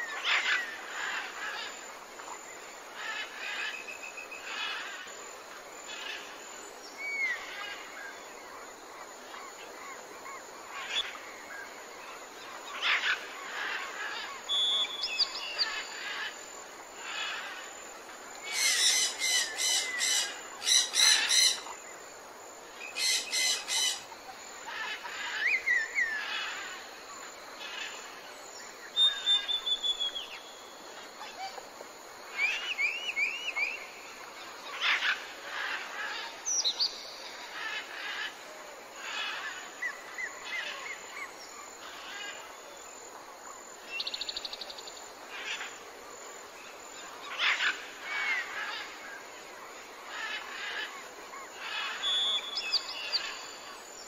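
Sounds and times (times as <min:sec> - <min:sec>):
steady outdoor hiss: 0:00.0 - 0:54.0
wild birds chirping and calling: 0:00.0 - 0:54.0.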